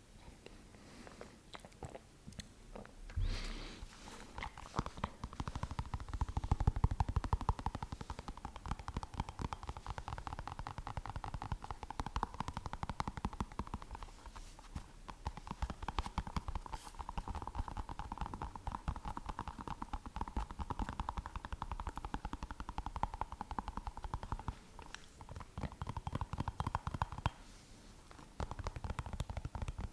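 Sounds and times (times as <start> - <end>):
fingertip tapping: 4.4 - 27.5, 28.1 - 29.9.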